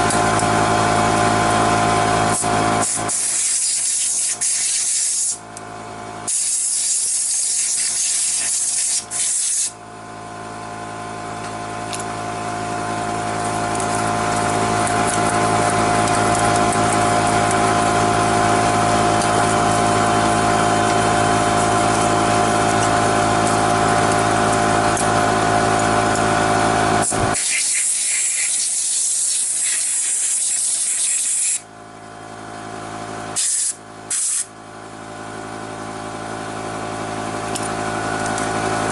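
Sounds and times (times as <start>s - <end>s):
machine hum with whine: 0.0s - 38.9s.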